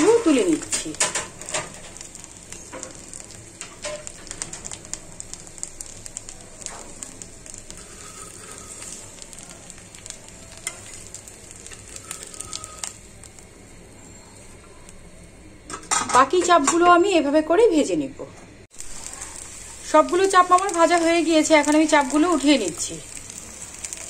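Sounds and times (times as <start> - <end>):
chicken sizzling in oil: 0.0 - 16.0, 18.7 - 24.0.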